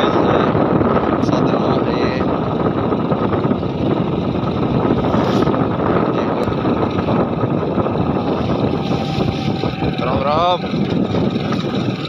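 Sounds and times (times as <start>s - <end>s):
motorcycle engine: 0.0s - 12.0s
wind rushing over microphone: 0.0s - 12.0s.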